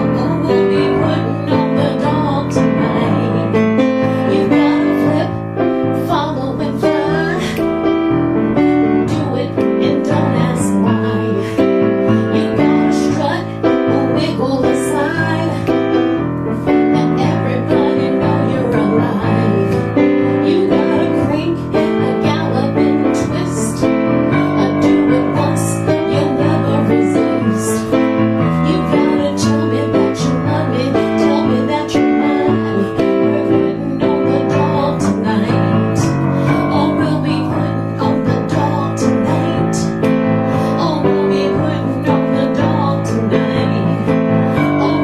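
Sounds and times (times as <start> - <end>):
piano music with steady beat: 0.0 - 45.0.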